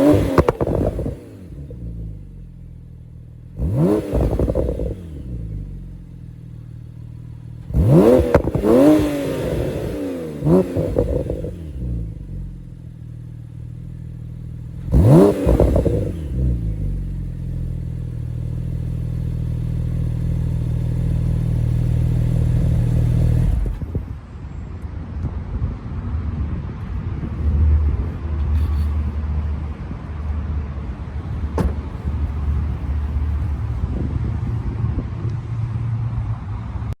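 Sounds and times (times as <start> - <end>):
car exhaust revving: 0.0 - 23.9, 27.2 - 35.0.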